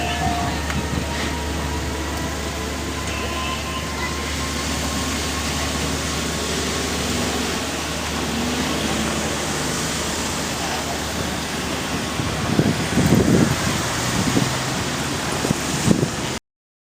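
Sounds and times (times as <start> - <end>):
train car rolling on rails: 0.0 - 16.4.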